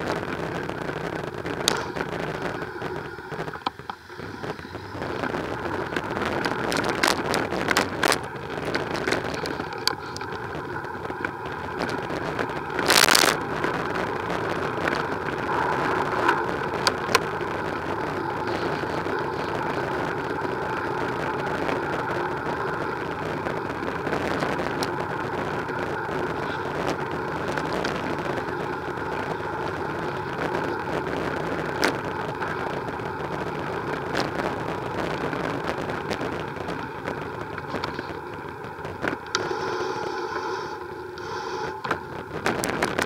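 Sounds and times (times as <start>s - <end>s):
bicycle tyres rolling on tarmac: 0.0s - 43.0s.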